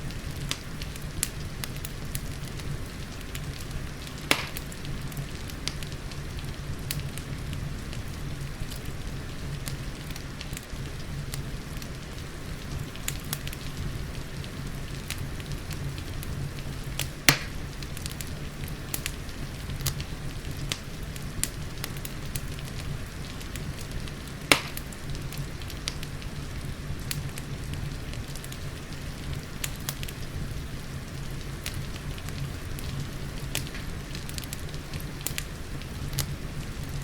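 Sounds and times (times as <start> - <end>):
fireplace crackling: 0.0 - 37.0
loud fire pops: 0.0 - 37.0
rain falling: 0.0 - 37.0.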